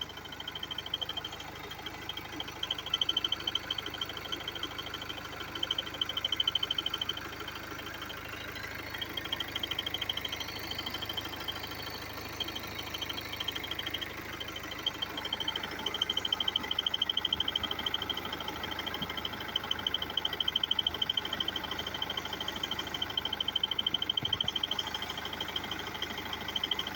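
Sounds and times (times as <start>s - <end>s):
car engine idling: 0.0s - 26.9s
rapid high-pitched ticking chirp: 0.0s - 26.9s.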